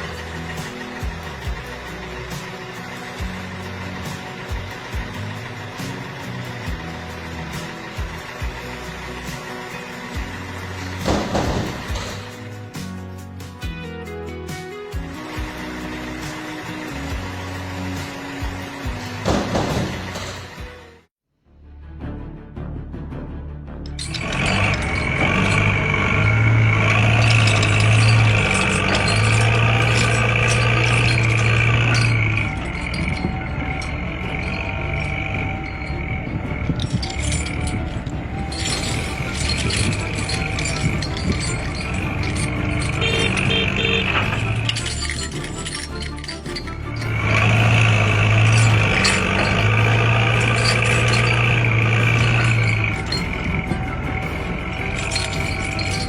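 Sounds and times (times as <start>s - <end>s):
truck engine humming: 0.0s - 21.0s, 23.9s - 56.0s
background music: 0.0s - 56.0s.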